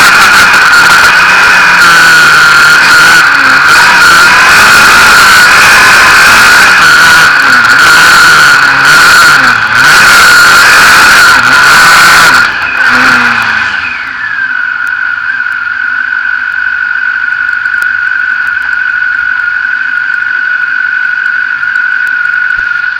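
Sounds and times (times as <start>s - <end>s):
constant high whine: 0.0s - 22.9s
engine revving high: 0.0s - 22.9s.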